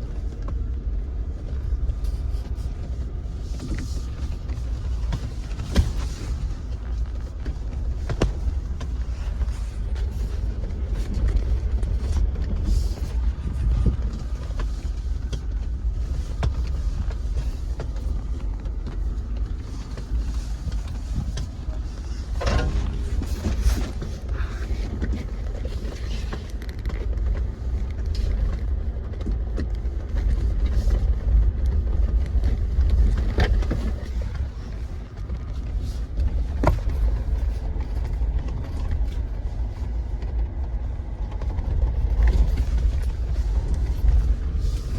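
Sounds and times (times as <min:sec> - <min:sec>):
vehicle driving on rocky trail: 0:00.0 - 0:44.9.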